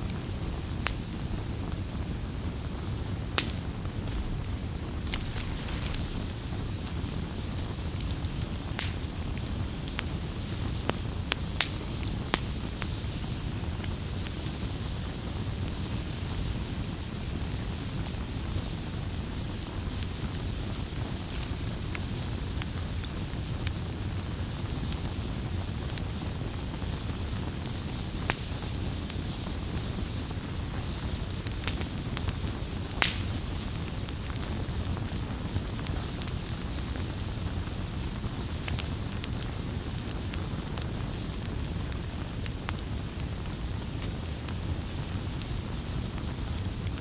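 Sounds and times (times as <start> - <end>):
campfire crackling and popping: 0.0 - 47.0
fire rumble and hiss: 0.0 - 47.0.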